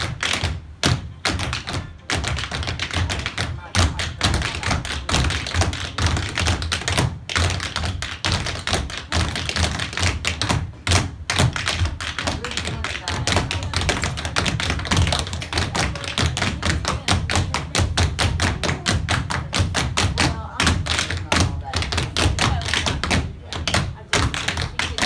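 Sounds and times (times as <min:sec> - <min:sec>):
tap shoes striking floor: 0:00.0 - 0:25.0.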